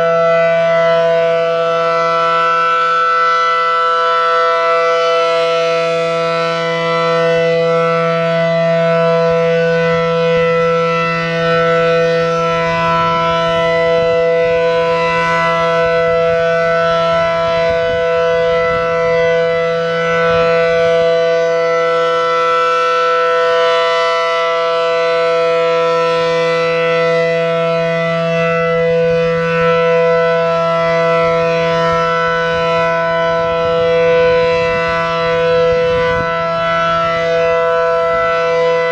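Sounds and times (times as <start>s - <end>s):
rotating warning siren tone: 0.0s - 38.9s.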